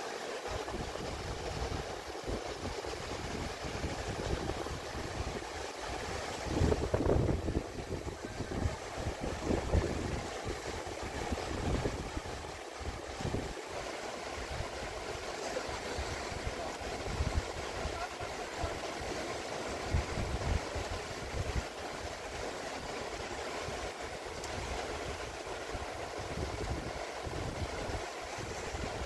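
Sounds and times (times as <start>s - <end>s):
river rapids rushing: 0.0s - 29.0s
wind gusting on microphone: 0.6s - 13.6s, 15.6s - 19.2s, 19.8s - 22.9s, 24.4s - 29.0s.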